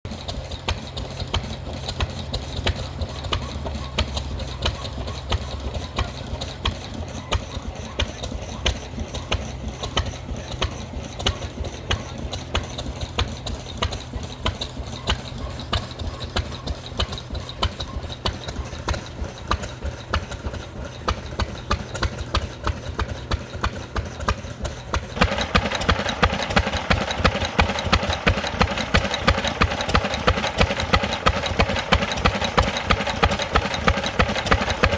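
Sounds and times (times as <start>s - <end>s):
stationary engine running: 0.0s - 34.9s.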